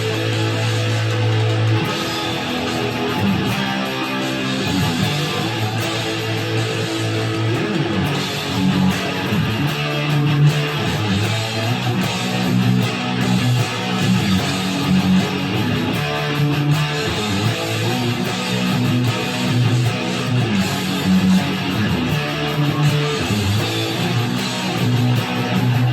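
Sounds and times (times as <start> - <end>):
electric guitar riff and chords: 0.0 - 25.9.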